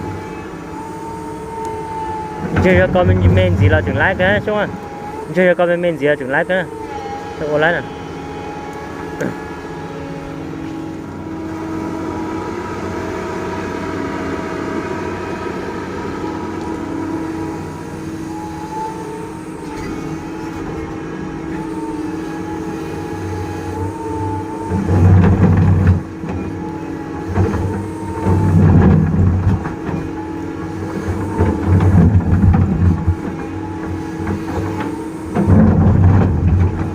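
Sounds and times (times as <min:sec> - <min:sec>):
wavering high whine: 0:00.0 - 0:36.7
excavator diesel engine running: 0:00.0 - 0:36.9.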